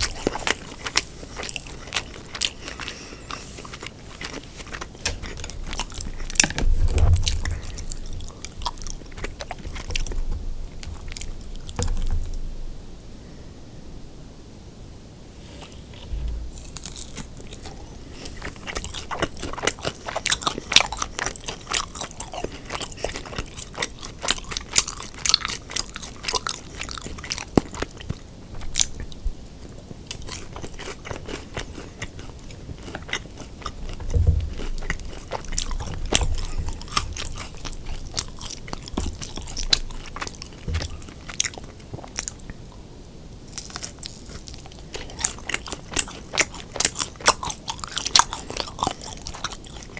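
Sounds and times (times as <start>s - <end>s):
chewing and crunching food: 0.0s - 13.1s, 15.5s - 49.9s.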